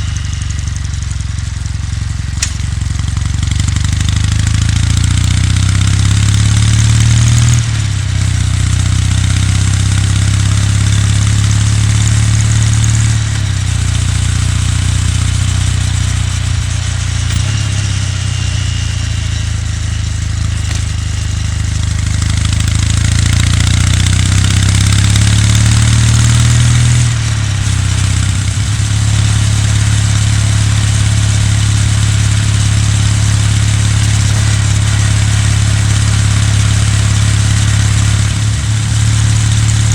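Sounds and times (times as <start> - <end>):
motorcycle engine and exhaust: 0.0 - 39.9
road noise: 0.0 - 39.9.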